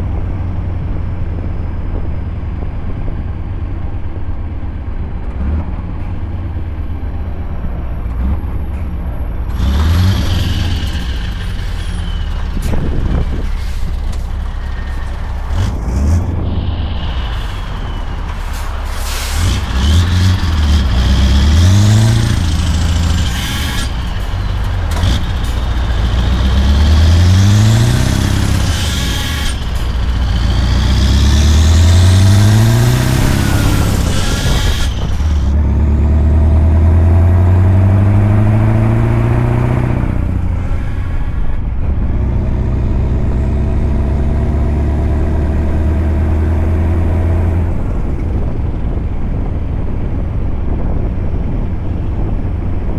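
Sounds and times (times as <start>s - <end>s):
truck engine pulling through gears: 0.0s - 52.9s.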